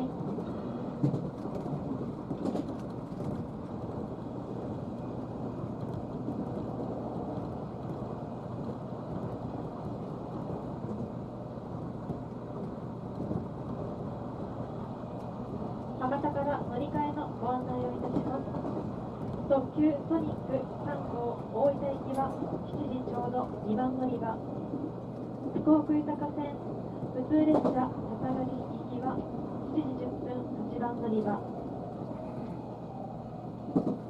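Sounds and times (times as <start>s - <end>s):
train rumbling inside car: 0.0s - 34.0s.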